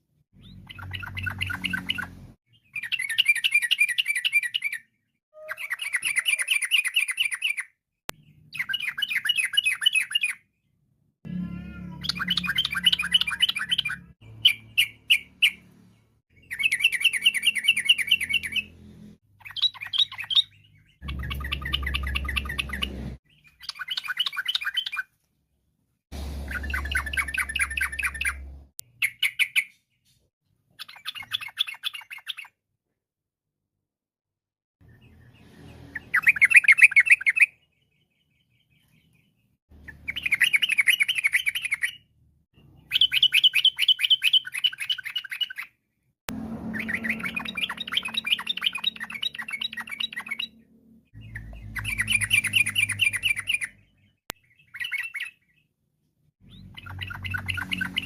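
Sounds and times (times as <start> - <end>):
bird warbling song: 0.4 - 10.6, 11.8 - 18.8, 19.4 - 25.1, 26.4 - 32.6, 34.8 - 45.8, 46.6 - 55.7, 56.4 - 58.0.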